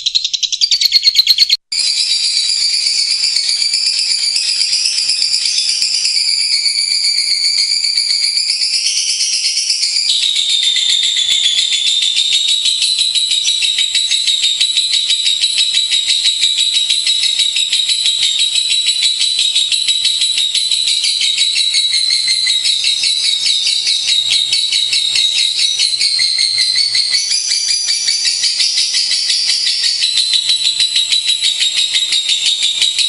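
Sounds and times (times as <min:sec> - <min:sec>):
lovebird chattering trill: 0:00.0 - 0:33.0.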